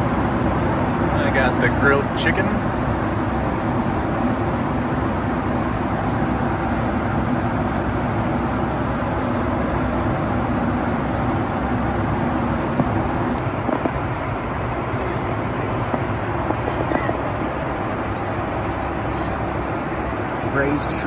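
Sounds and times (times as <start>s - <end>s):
aircraft engines and airflow rush: 0.0s - 21.0s.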